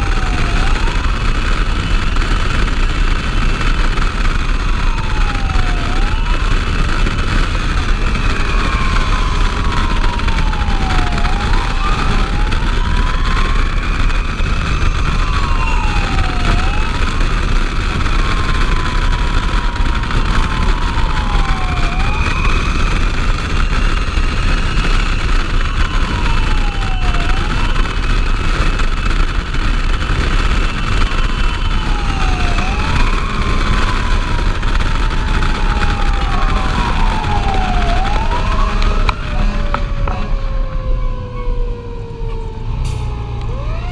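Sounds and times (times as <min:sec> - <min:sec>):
fire engine siren wailing: 0:00.0 - 0:43.9
truck engine noise: 0:00.0 - 0:43.9
wind rumble: 0:00.0 - 0:43.9.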